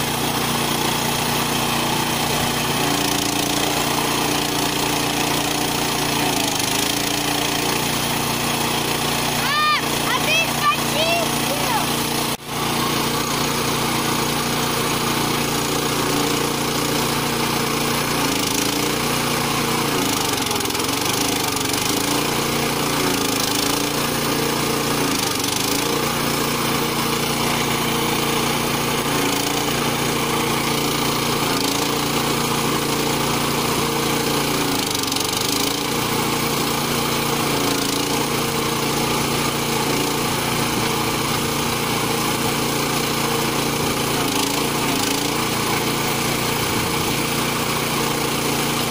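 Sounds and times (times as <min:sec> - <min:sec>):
log splitter motor and pump: 0:00.0 - 0:48.9.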